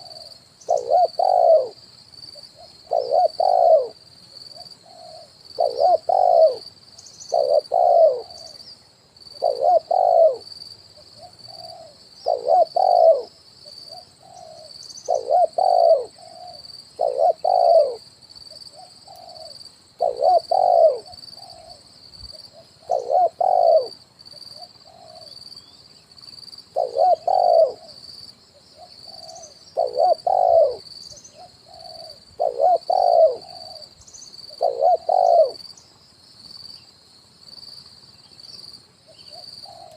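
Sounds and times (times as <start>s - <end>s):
dove cooing: 0.0s - 8.6s, 9.3s - 18.1s, 18.7s - 25.4s, 26.7s - 28.0s, 28.8s - 35.7s, 39.2s - 39.9s.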